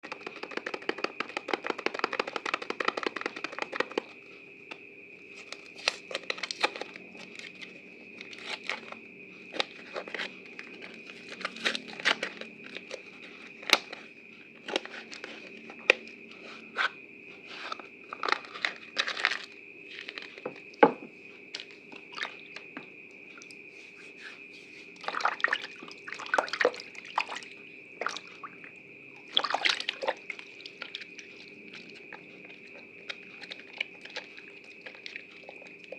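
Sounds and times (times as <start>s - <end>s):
wet soap squelching: 0.0s - 35.9s.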